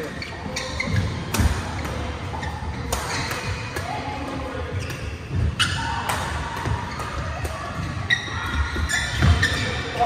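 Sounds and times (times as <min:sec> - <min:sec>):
rackets smacking shuttlecock: 0:00.8 - 0:10.0.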